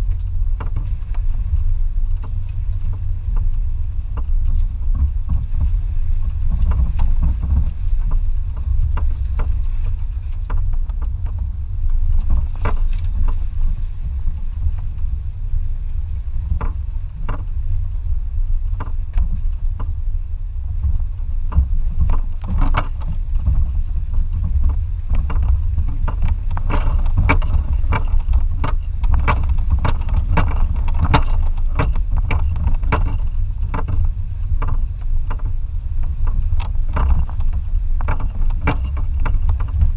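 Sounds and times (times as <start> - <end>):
knocks and rattles: 0.0 - 13.7, 16.4 - 17.7, 20.7 - 39.9
pickup truck driving rumble: 0.0 - 39.9.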